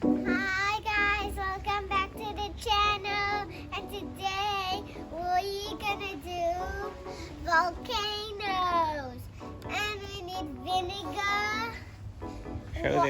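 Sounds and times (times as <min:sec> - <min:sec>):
child singing: 0:00.2 - 0:11.9, 0:12.8 - 0:13.0.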